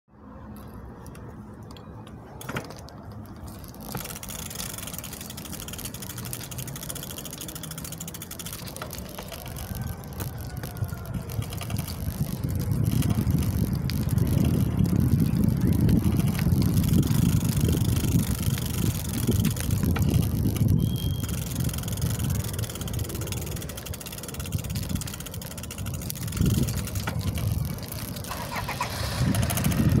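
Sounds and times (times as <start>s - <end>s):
bicycle tyre noise on asphalt: 0.2s - 30.0s
bicycle rattling: 0.6s - 30.0s.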